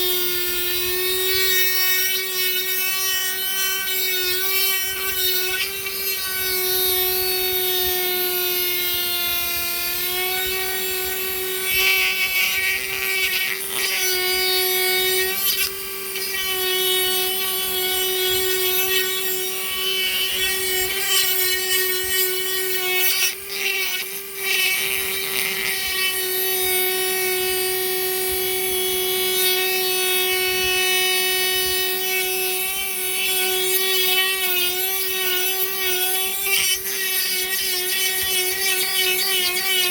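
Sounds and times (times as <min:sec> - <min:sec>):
power tool motor whining: 0:00.0 - 0:39.9.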